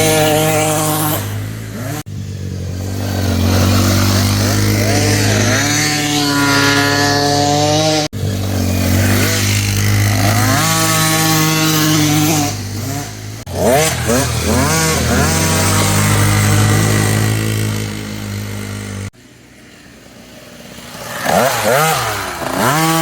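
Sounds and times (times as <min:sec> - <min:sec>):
dirt bike engine revving: 0:00.0 - 0:19.2, 0:20.0 - 0:23.0.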